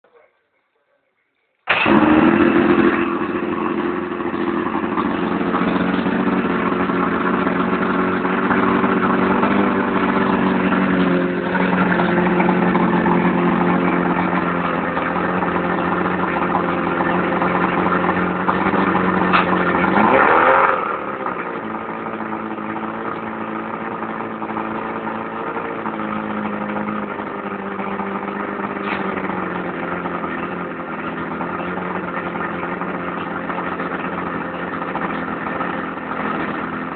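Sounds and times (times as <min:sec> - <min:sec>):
outboard motor running: 0:01.7 - 0:36.9.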